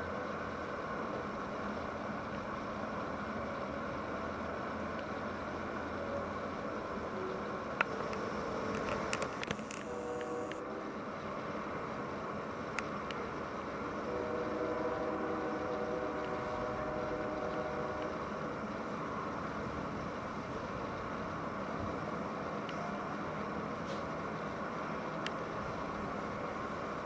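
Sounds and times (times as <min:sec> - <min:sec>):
freight train rumble: 0:00.0 - 0:27.0
locomotive engine drone: 0:00.0 - 0:27.0.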